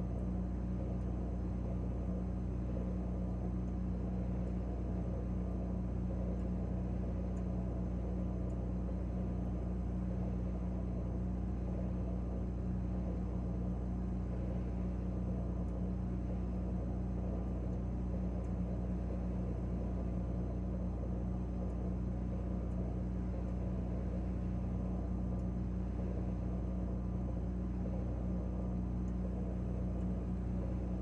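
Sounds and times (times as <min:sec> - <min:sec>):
refrigerator compressor humming: 0:00.0 - 0:31.0.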